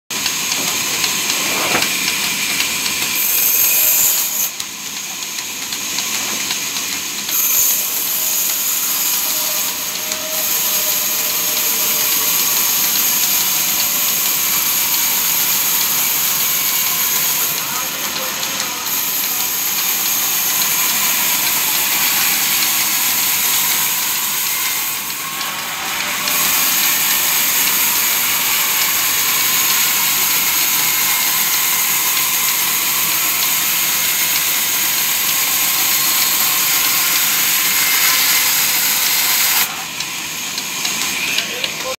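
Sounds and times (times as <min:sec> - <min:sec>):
saw cutting wood: 0:00.1 - 0:41.9.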